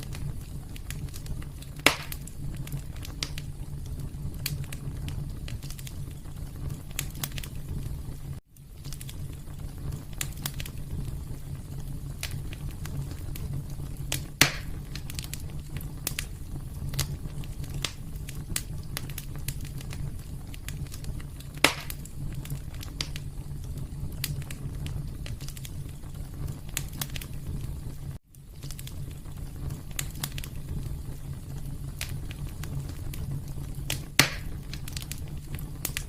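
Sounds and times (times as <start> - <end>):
loud fire snaps: 0.0 - 36.0
steady low rumble: 0.0 - 36.0
wood fire crackling: 0.0 - 36.0.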